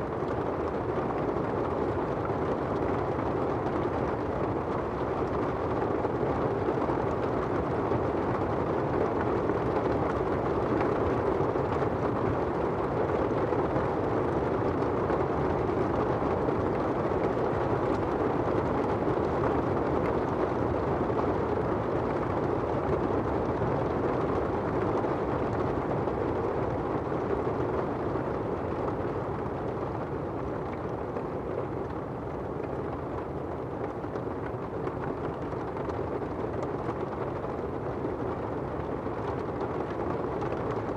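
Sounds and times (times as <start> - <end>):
rain drumming on an umbrella: 0.0 - 40.9.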